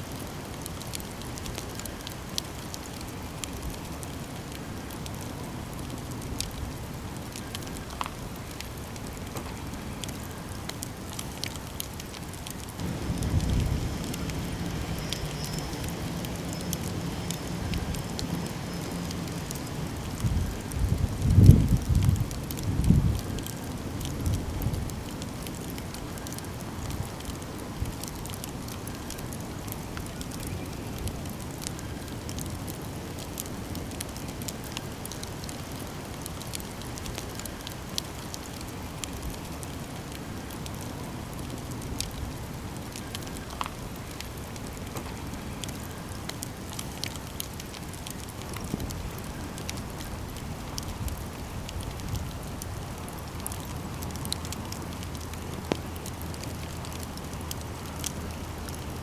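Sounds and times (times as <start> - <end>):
fire crackles and pops: 0.0 - 59.0
campfire flame rushing: 0.1 - 59.0.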